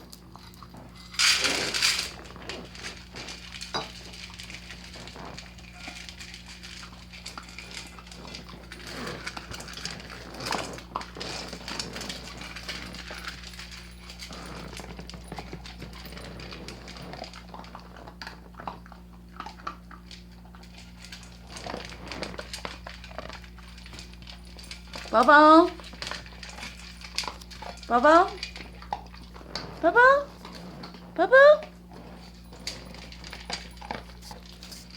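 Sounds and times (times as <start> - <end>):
dog eating from food bowl: 0.0 - 34.9.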